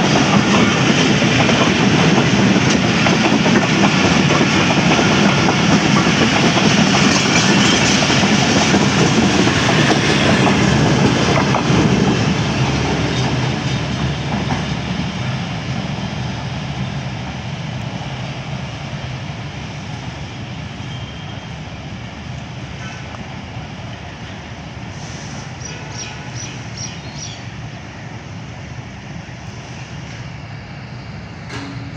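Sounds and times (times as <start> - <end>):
train rumbling over tracks: 0.0 - 31.9.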